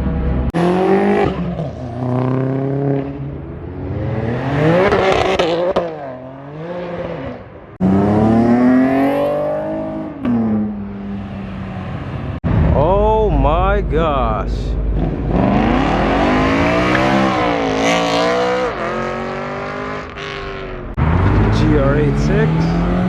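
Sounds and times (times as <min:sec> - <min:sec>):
car engines revving and passing: 0:00.0 - 0:12.7, 0:14.7 - 0:23.0.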